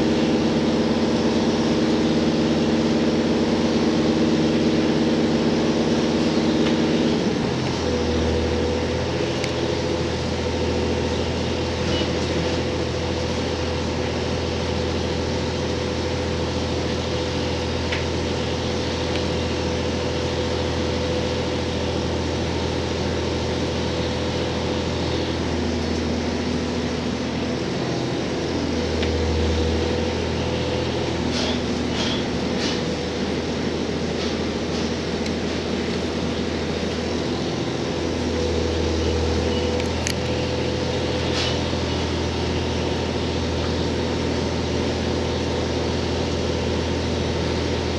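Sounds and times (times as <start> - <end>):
railcar engine drone: 0.0 - 47.9.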